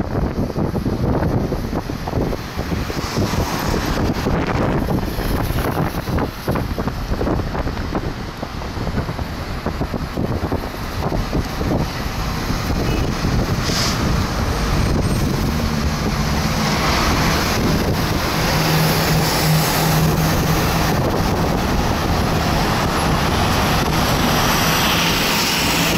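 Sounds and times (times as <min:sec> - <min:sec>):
cars passing: 0:00.0 - 0:25.9
low engine hum: 0:00.1 - 0:25.9.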